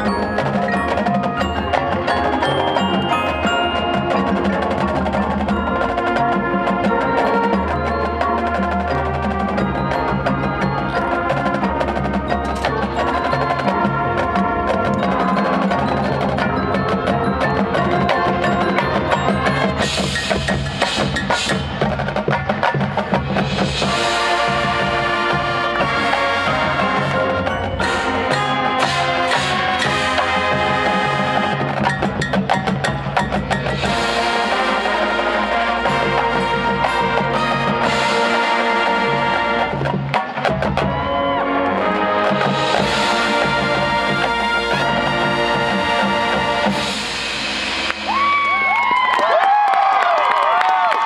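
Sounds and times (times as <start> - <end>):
mallet percussion and drums: 0.0 - 50.8
marching band playing: 0.0 - 51.0.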